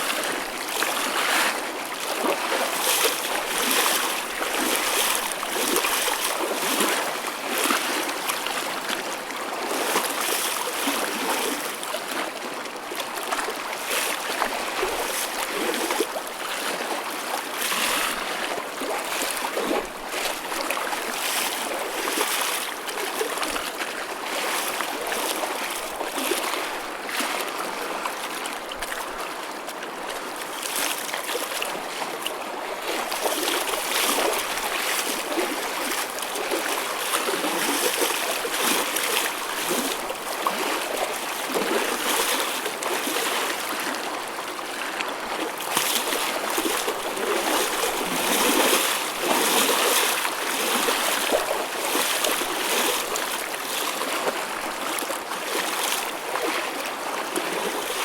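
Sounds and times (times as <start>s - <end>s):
choppy waves splashing: 0.0s - 58.0s.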